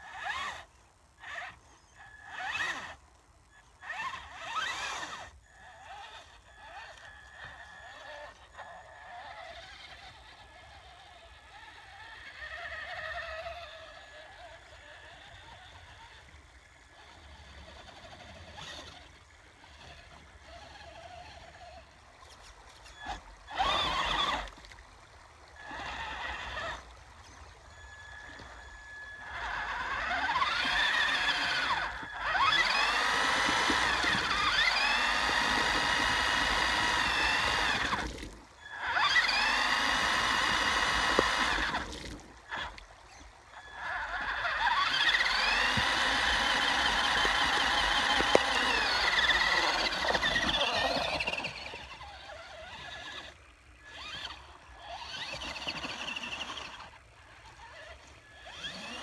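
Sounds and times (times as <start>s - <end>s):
electric motor whining: 0.0s - 59.0s
wheels spinning in slush: 0.0s - 59.0s.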